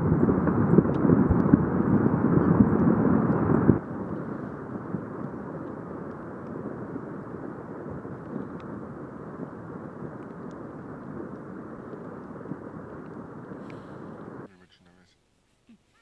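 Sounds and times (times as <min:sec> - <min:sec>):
distant volcanic eruption roar: 0:00.0 - 0:14.5.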